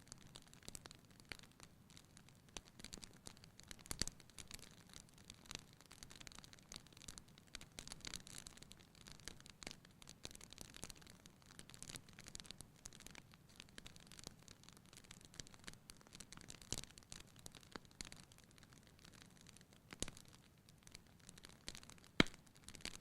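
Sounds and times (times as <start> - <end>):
fire crackling and popping: 0.0 - 23.0.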